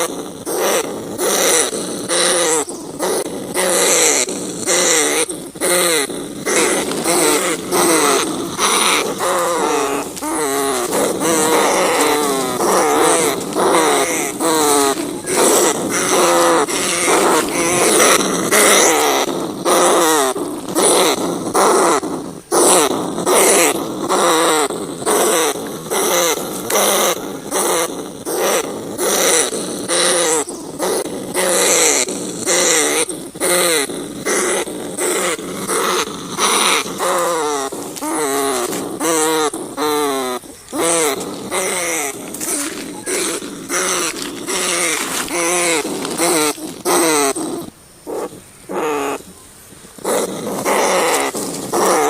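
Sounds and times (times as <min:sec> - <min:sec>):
rats squealing: 0:00.0 - 0:49.4, 0:50.0 - 0:52.0.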